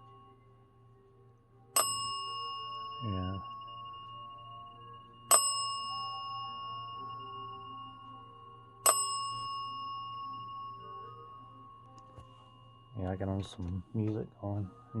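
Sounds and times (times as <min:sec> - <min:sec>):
small metal bell ringing: 0:00.0 - 0:00.8, 0:01.8 - 0:15.0
faint background music: 0:00.0 - 0:15.0.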